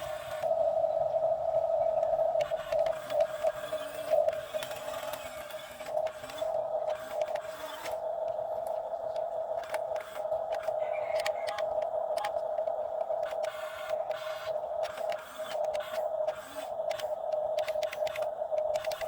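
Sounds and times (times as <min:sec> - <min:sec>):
excavator machine whine: 0:00.0 - 0:19.0.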